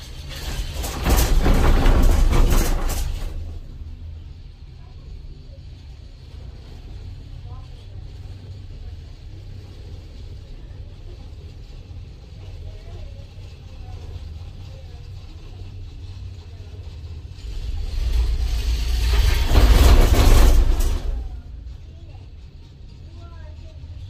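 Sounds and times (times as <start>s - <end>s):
cable car cabin hum: 0.0s - 24.0s
rumble and rattle over sheaves: 0.0s - 24.0s.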